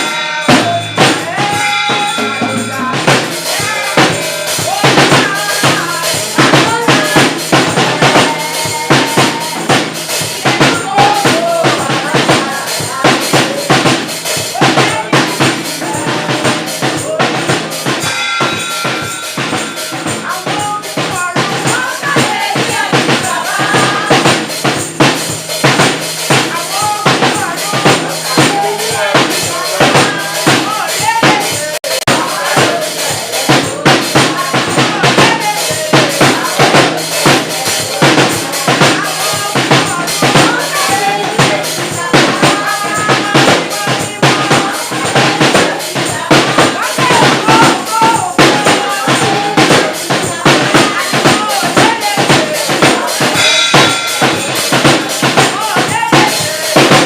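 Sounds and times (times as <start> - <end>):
drum kit playing: 0.0 - 57.0
voices singing: 0.0 - 57.0.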